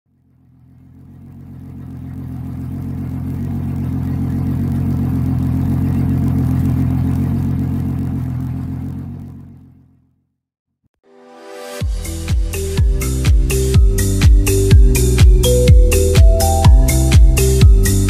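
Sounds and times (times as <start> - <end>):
deep engine rumble: 0.1 - 10.0, 12.0 - 18.0.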